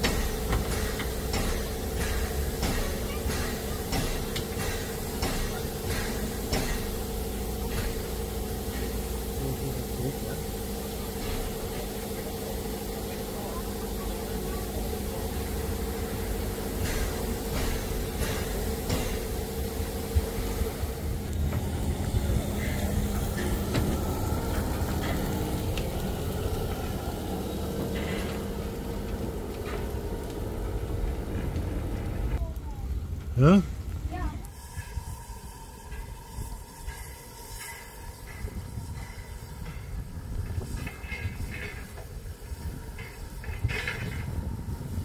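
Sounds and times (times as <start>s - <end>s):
steam locomotive hum and hiss: 0.0s - 45.0s.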